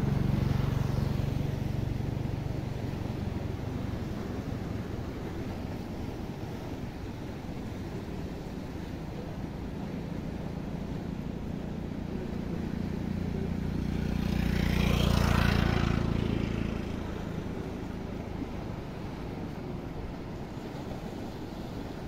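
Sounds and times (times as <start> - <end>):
vehicle engine passing: 0.0 - 6.6, 9.6 - 20.9
low rumble of wind and water: 0.0 - 22.0.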